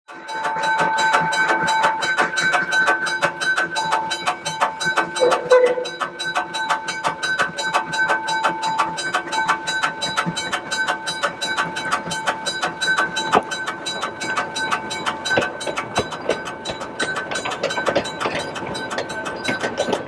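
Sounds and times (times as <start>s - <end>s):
steam train chugging: 0.1s - 20.0s.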